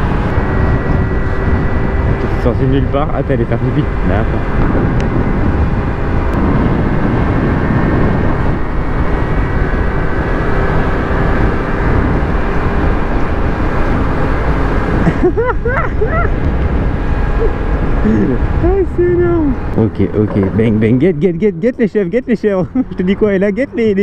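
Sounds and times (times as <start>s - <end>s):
scooter engine running: 0.0s - 21.0s
wind on microphone: 0.0s - 21.2s.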